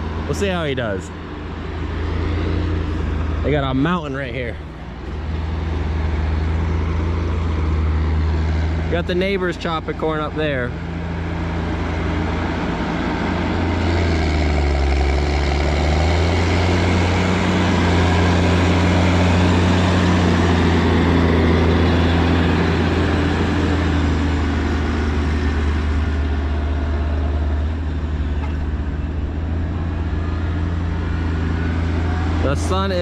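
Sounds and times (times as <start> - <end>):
heavy farm vehicle engine: 0.0 - 33.0.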